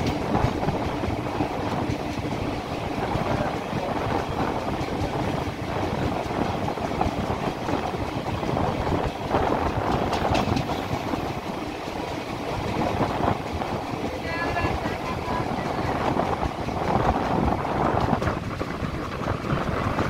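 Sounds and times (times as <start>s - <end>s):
train wheels clattering on track: 0.0s - 20.0s.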